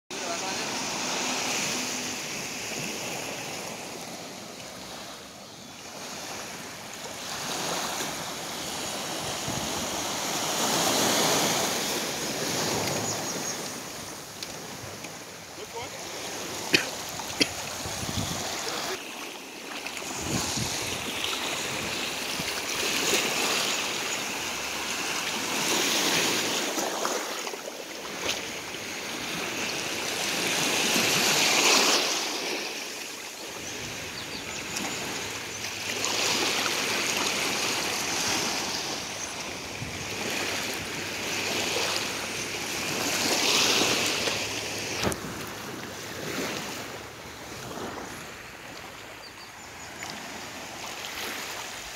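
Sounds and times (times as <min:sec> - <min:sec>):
small waves washing in: 0:00.1 - 0:51.9.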